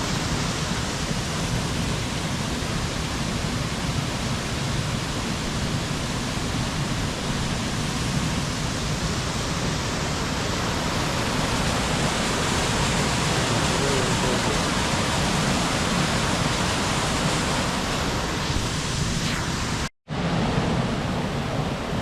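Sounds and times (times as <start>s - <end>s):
rushing falling water: 0.0s - 22.0s.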